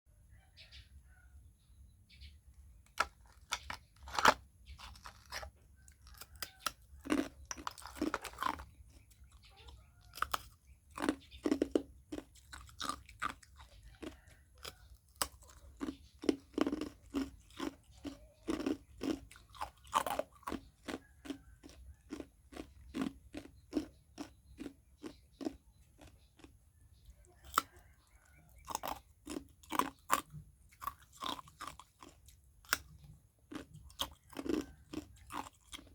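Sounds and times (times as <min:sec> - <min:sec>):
ice cubes crunching: 0:02.9 - 0:26.6, 0:28.6 - 0:35.9.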